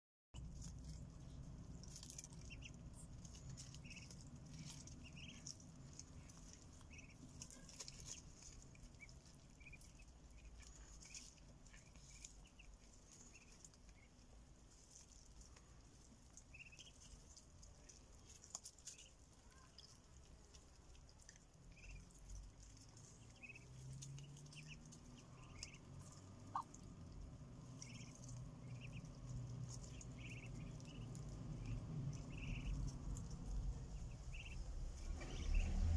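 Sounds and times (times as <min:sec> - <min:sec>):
ducklings peeping: 0:00.4 - 0:35.8.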